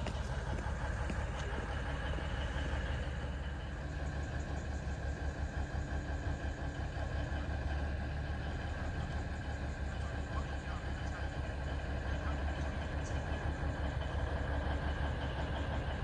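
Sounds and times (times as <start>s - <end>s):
diesel locomotive engine humming: 0.0s - 16.0s.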